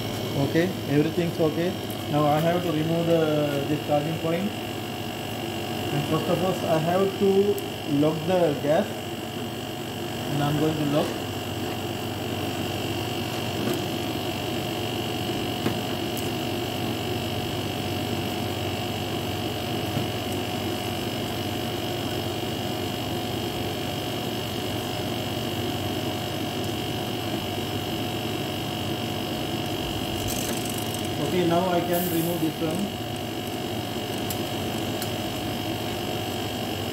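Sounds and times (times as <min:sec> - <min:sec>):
air conditioner humming with high whine: 0:00.0 - 0:36.9.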